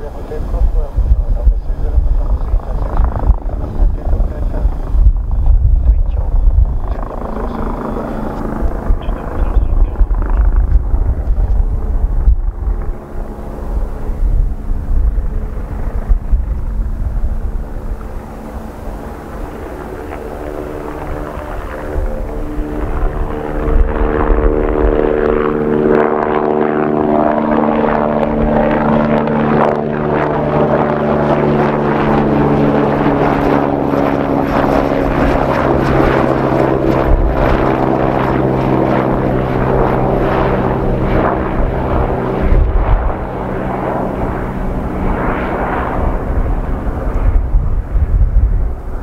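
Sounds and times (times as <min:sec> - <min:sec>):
helicopter flying past: 0:00.0 - 0:49.0
wind gusts on microphone: 0:00.0 - 0:49.0.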